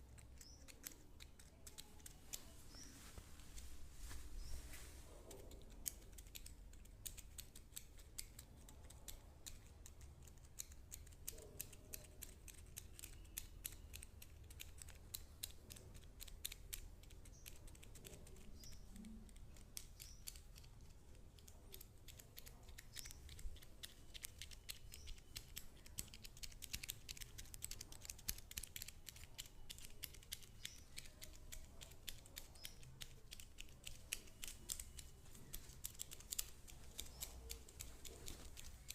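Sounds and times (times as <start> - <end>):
faint rapid clicking: 0.0 - 3.7, 5.2 - 38.9.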